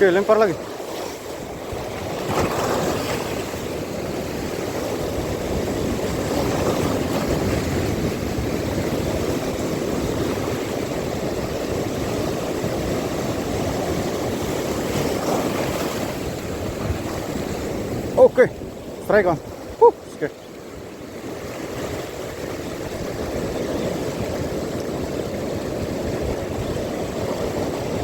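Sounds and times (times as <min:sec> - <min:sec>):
sea waves: 0:00.0 - 0:28.0
wind buffeting microphone: 0:00.0 - 0:28.0.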